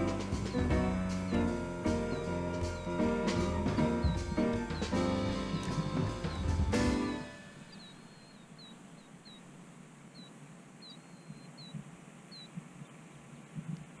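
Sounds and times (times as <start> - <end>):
small bird chirping: 0.5 - 13.8.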